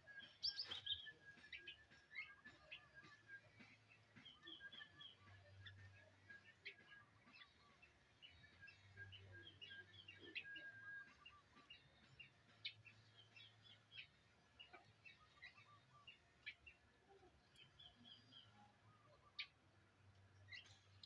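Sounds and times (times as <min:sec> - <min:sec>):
faint bird chirping: 0:00.0 - 0:21.0.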